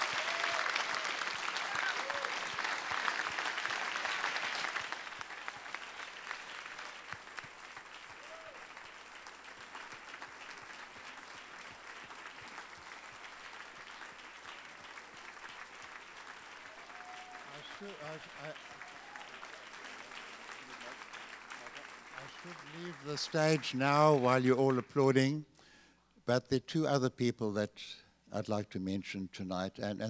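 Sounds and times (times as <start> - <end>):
audience applauding: 0.0 - 25.2.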